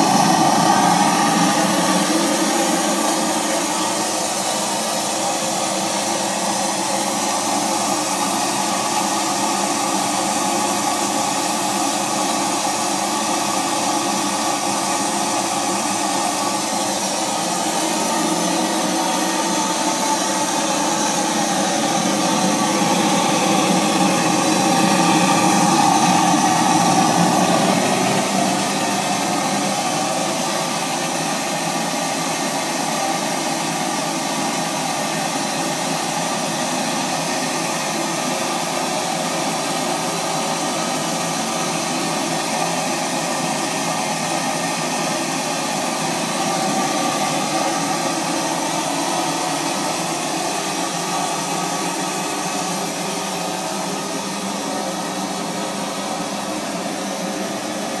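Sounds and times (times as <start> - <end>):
steam engine hissing: 0.0 - 58.0.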